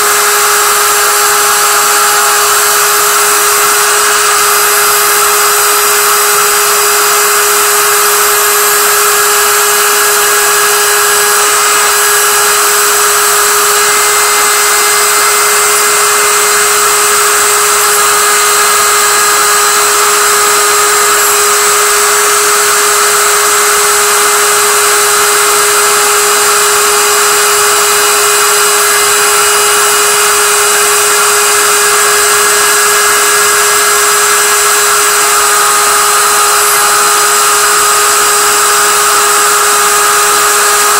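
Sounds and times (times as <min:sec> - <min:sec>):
mill spindle whine: 0:00.0 - 0:40.9.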